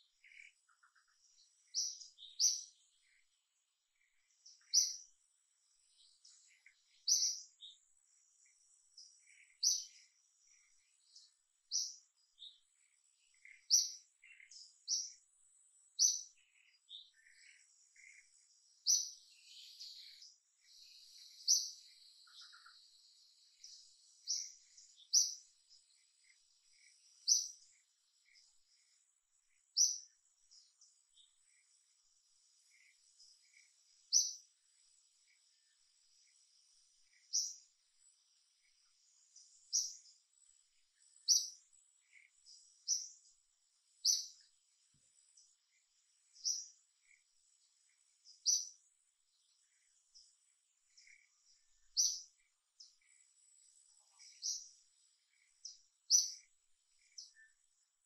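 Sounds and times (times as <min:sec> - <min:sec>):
faint bird chirps and twitters: 0:00.0 - 0:58.0.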